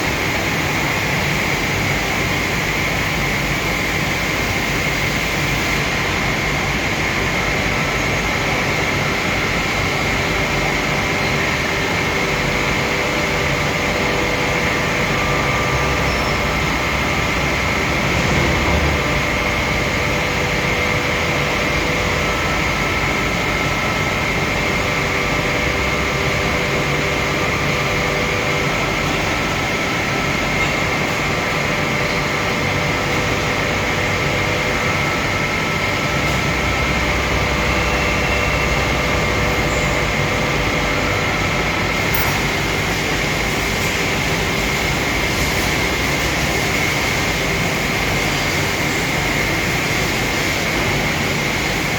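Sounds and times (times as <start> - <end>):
machine running steadily: 0.0 - 51.9.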